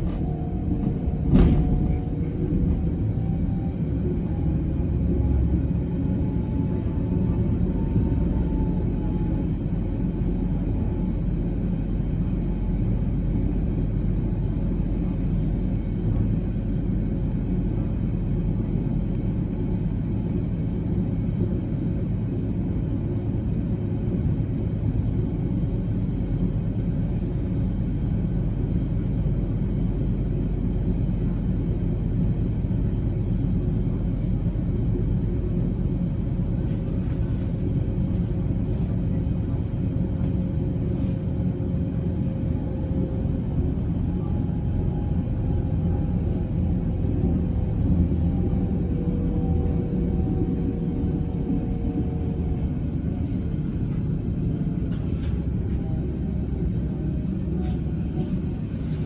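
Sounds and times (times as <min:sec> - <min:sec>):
running vehicle rumble: 0:00.0 - 0:59.0.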